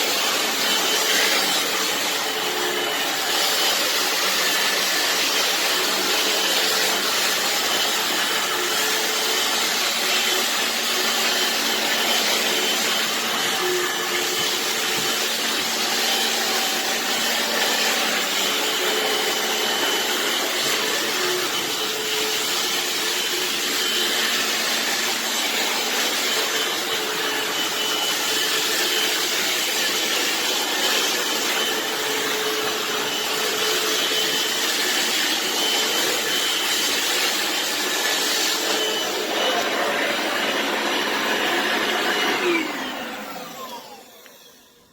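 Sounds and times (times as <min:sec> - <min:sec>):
vacuum cleaner whirring: 0:00.0 - 0:44.9.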